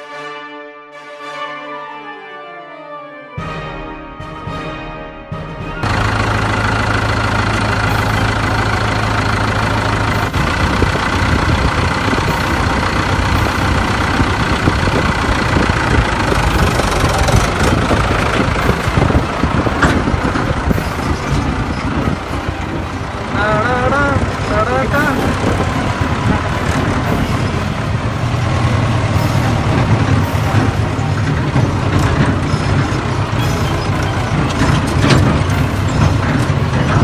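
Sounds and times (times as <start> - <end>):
tractor engine running: 5.4 - 37.0.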